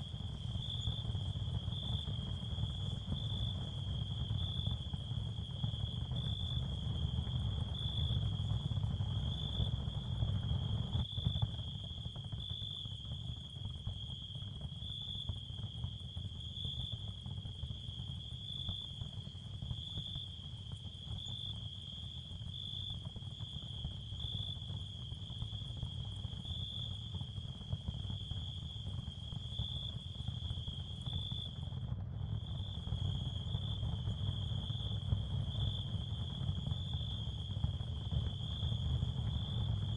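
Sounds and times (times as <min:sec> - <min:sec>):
constant low rumble: 0:00.0 - 0:39.9.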